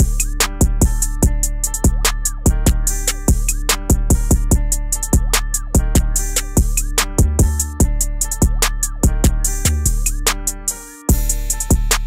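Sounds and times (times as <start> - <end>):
drum beat: 0.0 - 10.4, 11.1 - 12.0
deep bass: 0.0 - 10.5.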